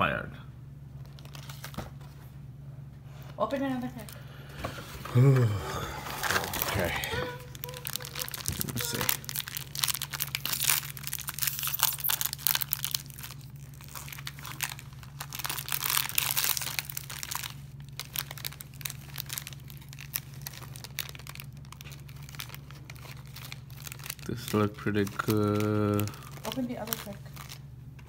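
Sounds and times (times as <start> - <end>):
foil wrapper crinkling and tearing: 1.0 - 1.9, 6.0 - 28.0.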